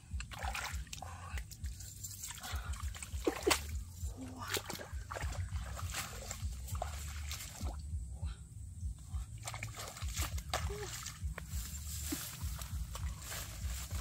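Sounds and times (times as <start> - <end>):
splashing in shallow muddy water: 0.0 - 8.0, 9.0 - 14.0.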